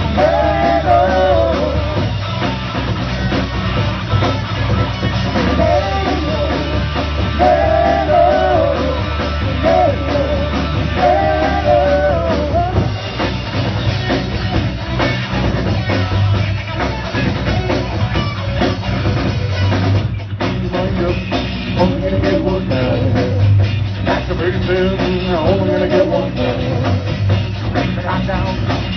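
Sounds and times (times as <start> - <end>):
rock band playing live: 0.0 - 28.9
wavering lead guitar line: 0.0 - 28.9.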